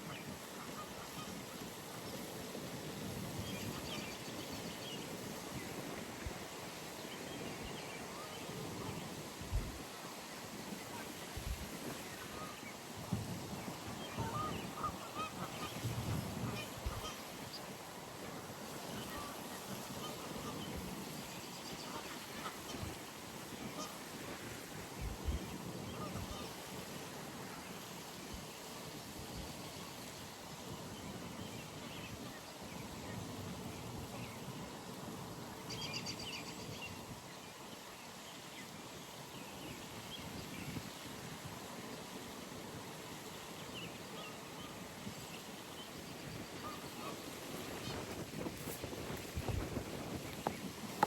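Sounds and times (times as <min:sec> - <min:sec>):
pond ambience: 0:00.0 - 0:51.0.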